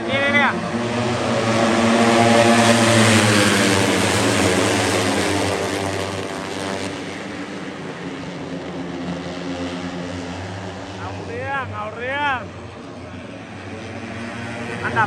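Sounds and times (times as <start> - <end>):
motorcycles passing at speed: 0.0 - 15.0.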